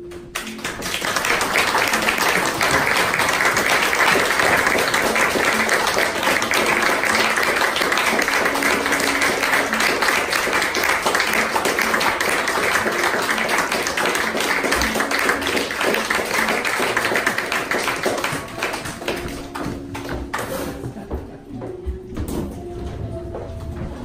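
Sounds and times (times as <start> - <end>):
audience applauding: 0.0 - 20.8
music playing: 0.0 - 24.0.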